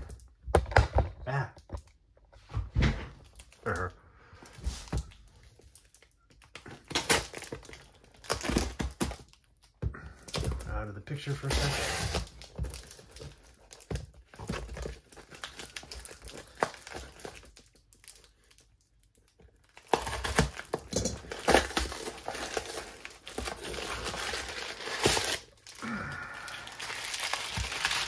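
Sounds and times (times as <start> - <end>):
plastic wrapping crinkling and tearing: 3.2 - 28.0.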